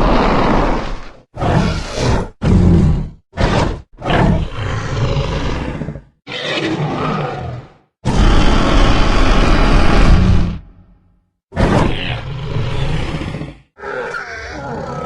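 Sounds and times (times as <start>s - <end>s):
dinosaur roars: 0.0s - 10.9s, 11.6s - 15.0s.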